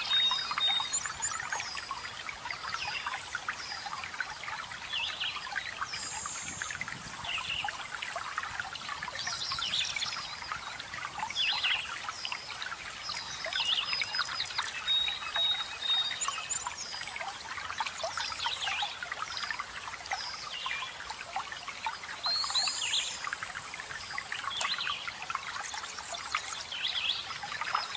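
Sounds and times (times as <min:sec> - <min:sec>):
small birds chirping and trilling: 0:00.0 - 0:27.9
water trickling and splashing: 0:00.0 - 0:27.9.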